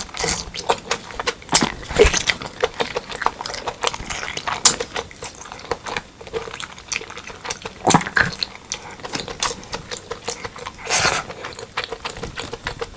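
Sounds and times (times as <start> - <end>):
wet chewing and smacking: 0.0 - 12.9.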